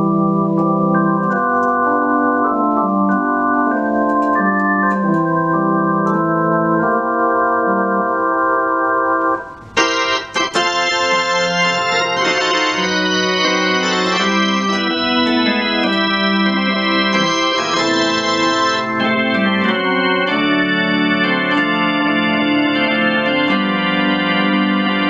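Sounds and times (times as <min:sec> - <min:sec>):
electronic organ playing hymn chords: 0:00.0 - 0:25.0.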